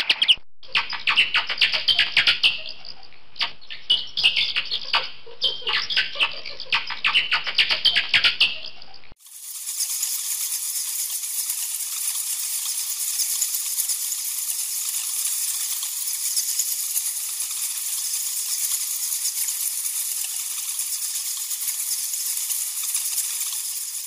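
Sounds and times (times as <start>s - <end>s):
bats clicking: 0.2s - 2.8s, 3.4s - 24.0s.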